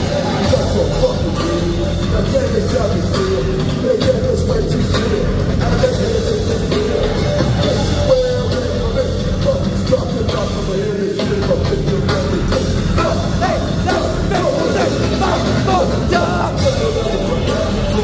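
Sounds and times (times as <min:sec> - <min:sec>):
live band through loudspeakers: 0:00.0 - 0:18.0.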